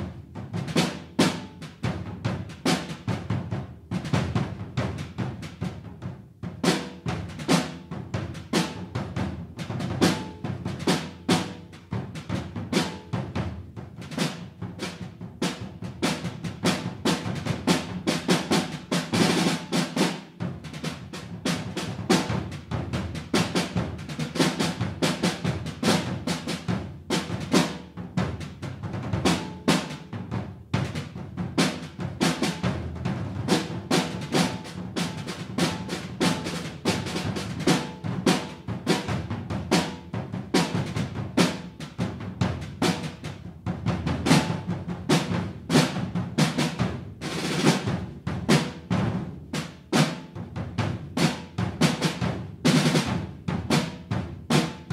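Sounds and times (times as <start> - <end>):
field drums rolling: 0.0 - 54.9.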